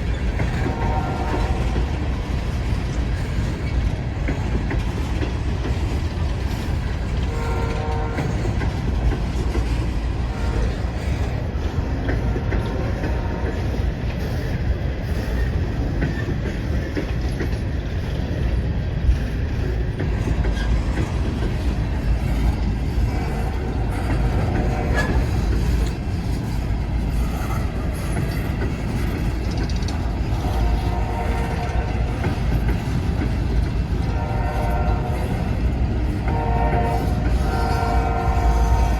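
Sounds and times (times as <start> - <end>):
freight train rumbling and rattling: 0.0 - 38.9
wheels clicking over rail joints: 0.0 - 38.9.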